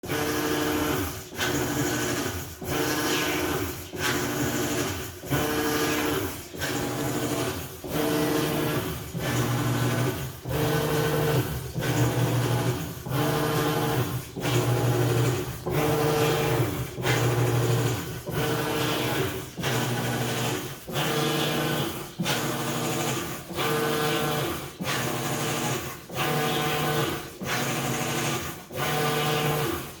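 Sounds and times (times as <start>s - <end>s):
washing machine agitating: 0.0s - 30.0s.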